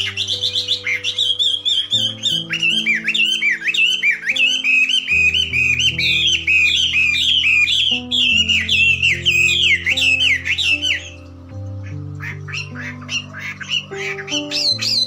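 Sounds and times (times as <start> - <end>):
bird chirping: 0.0 - 15.0
music with slow held chords: 0.0 - 15.0.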